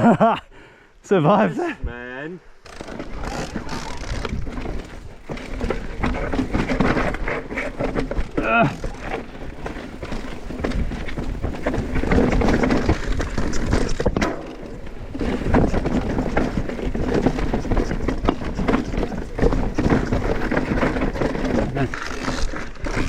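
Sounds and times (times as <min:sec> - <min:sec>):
bike rattling: 0:02.6 - 0:23.0
bike tyres rolling over rock: 0:02.6 - 0:23.0.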